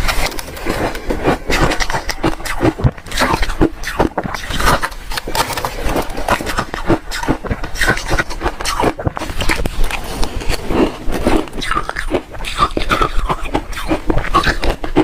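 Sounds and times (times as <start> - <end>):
ice being chewed: 0.0 - 15.0.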